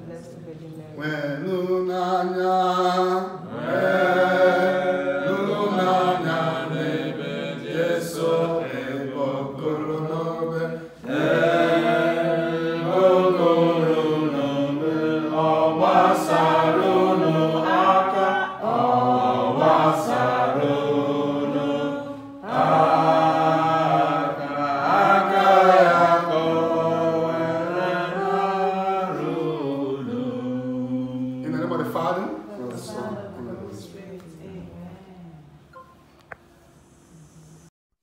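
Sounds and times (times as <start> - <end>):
voices singing a slow chant: 1.0 - 33.7.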